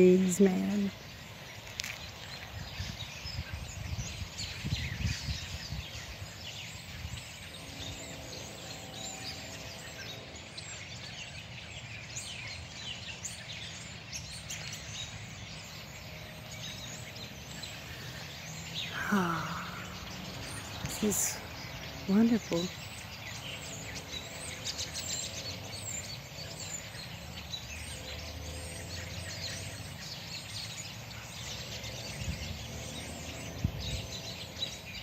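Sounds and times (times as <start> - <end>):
low outdoor rumble: 0.0 - 34.9
flock of birds chirping: 0.0 - 35.0.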